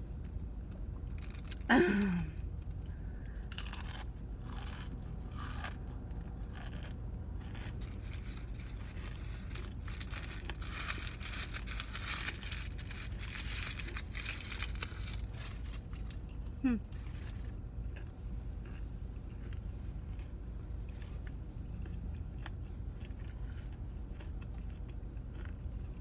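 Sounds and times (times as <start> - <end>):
chewing and crunching food: 0.0 - 26.0
steady low hum: 0.0 - 26.0.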